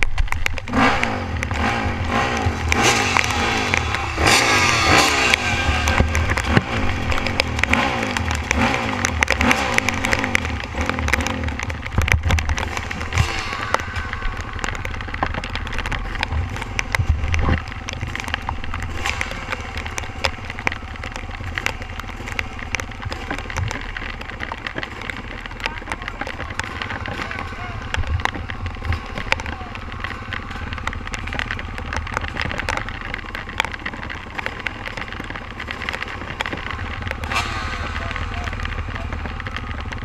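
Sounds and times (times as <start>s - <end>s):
sharp clicks and crackles: 0.0s - 40.0s
dirt bike engine revving: 0.6s - 40.0s.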